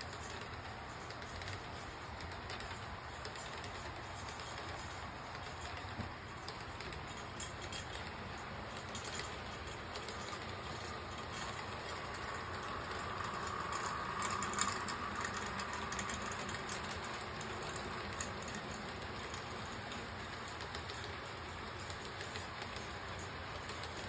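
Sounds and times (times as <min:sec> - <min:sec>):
model train cars rolling: 0:00.0 - 0:24.0
wheel clicks: 0:00.0 - 0:24.0.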